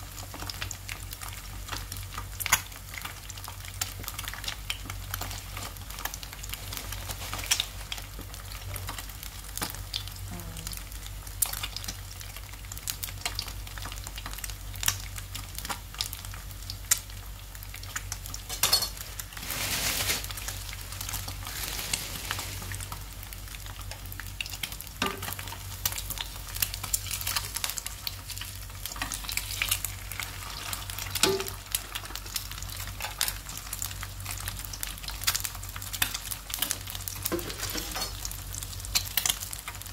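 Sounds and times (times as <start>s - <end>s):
egg sizzling in a pan: 0.0s - 39.9s.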